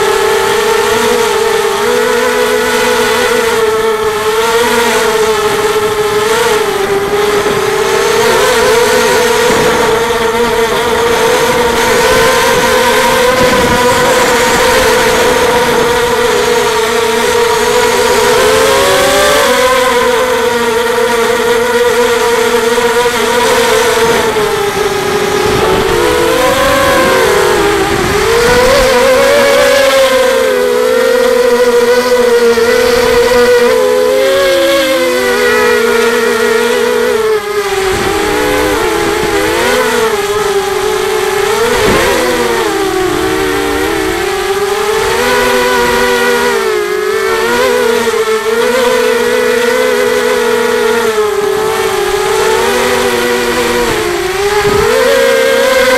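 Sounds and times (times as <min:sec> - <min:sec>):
drone motors and propellers whining: 0:00.0 - 0:55.9.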